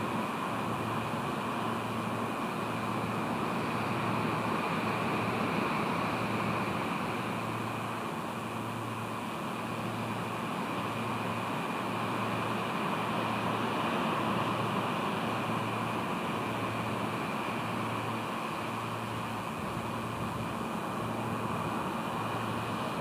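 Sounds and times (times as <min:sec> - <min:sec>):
low steady hum: 0:00.0 - 0:23.0
sea: 0:00.0 - 0:23.0.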